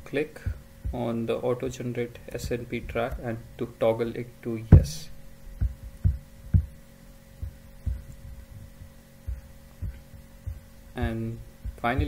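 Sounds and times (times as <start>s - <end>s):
soft low thumps: 0.0s - 3.7s, 4.6s - 12.0s
low electrical hum: 0.0s - 12.0s.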